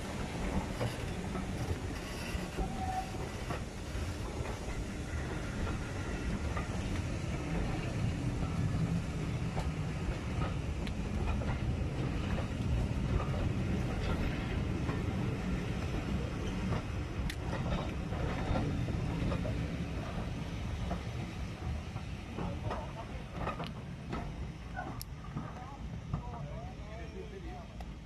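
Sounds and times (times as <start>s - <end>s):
passenger coaches rumbling past: 0.0s - 28.0s.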